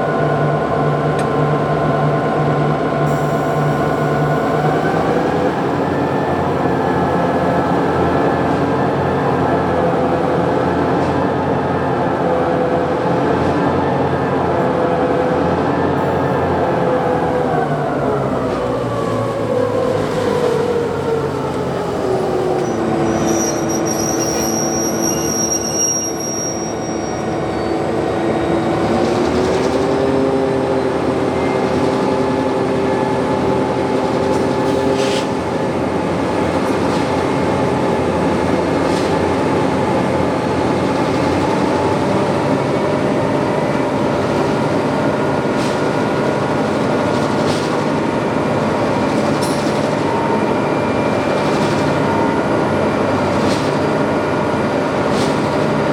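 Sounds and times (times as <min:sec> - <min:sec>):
steady train whine: 0:00.0 - 0:55.9
train rail rumble: 0:00.0 - 0:55.9.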